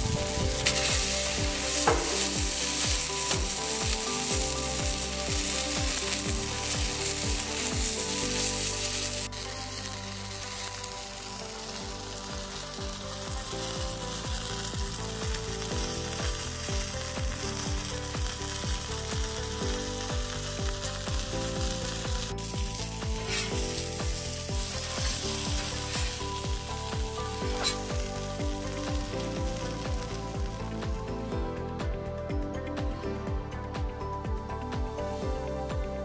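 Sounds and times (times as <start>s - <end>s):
fish sizzling on a griddle: 0.0s - 31.3s
background music with a beat: 0.0s - 36.0s.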